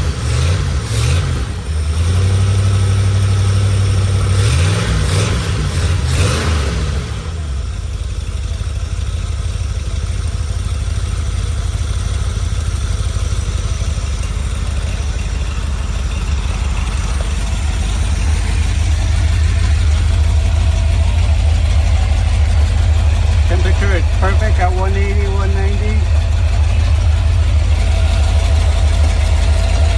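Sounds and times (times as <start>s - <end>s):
car engine revving and idling: 0.0s - 29.9s.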